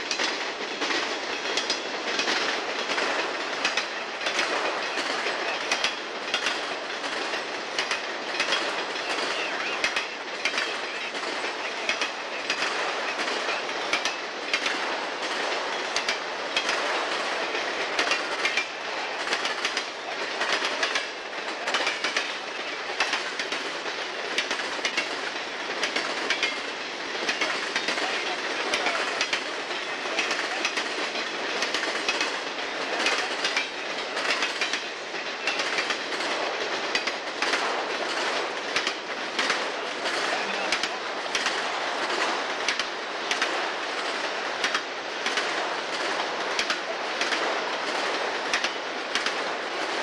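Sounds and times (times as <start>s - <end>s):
freight cars rolling rumble: 0.0s - 50.0s
train wheels clicking over rail joints: 0.0s - 50.0s.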